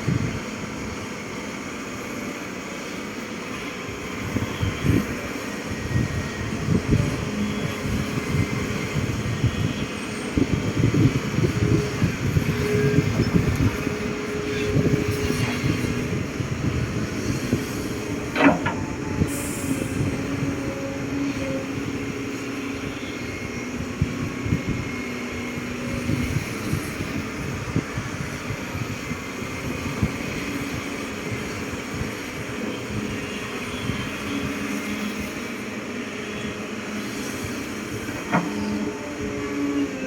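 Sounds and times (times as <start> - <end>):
excavator mechanical rattle: 4.3 - 24.2, 25.4 - 40.0.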